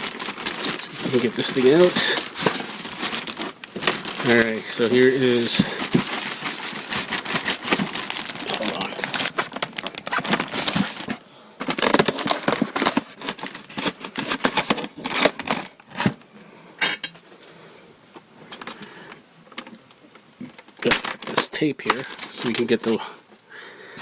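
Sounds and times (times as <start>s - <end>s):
packaging crinkling and crackling: 0.0s - 16.2s, 18.5s - 18.9s, 19.5s - 24.0s.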